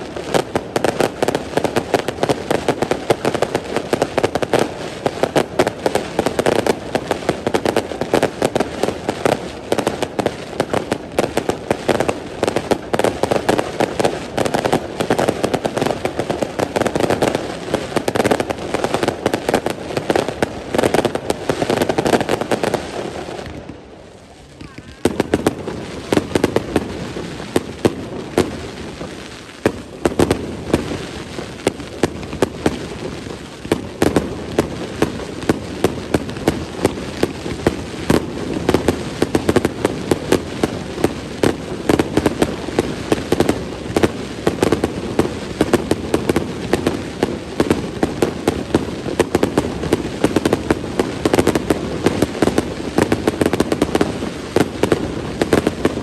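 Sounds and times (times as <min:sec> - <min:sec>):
fireworks bangs and crackles: 0:00.0 - 0:56.0
rumble of fireworks bursts: 0:00.0 - 0:56.0.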